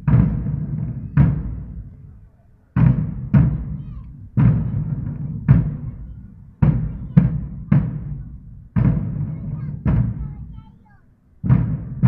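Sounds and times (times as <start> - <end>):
large drums beaten: 0.0 - 12.0.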